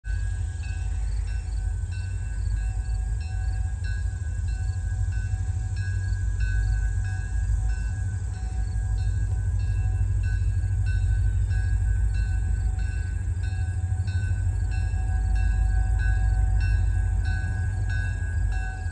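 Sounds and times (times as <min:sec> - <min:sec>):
freight train rumbling: 0:00.0 - 0:18.9.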